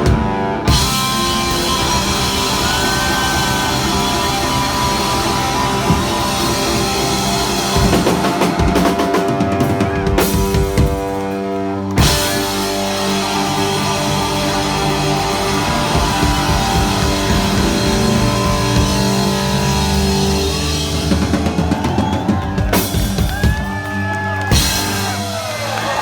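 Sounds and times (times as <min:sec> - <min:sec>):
drum kit: 0:00.0 - 0:26.0
electric guitar: 0:00.0 - 0:26.0
rock band playing live: 0:00.0 - 0:26.0.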